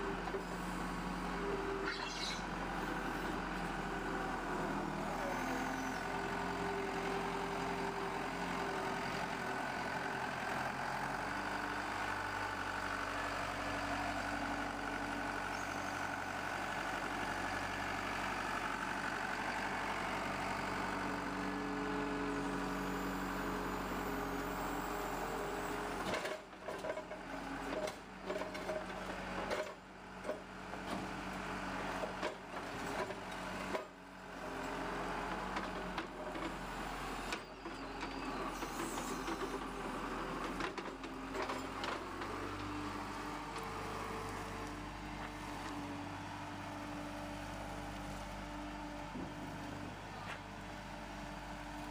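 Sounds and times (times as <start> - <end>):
heavy machinery engines running: 0.0 - 51.9.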